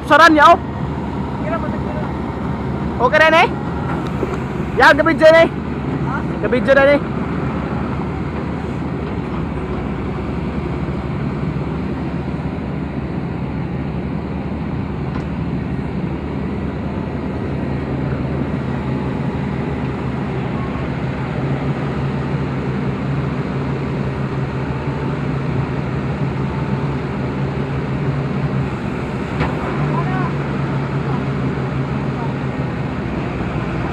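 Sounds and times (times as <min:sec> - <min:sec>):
diesel engine droning: 0:00.0 - 0:33.9.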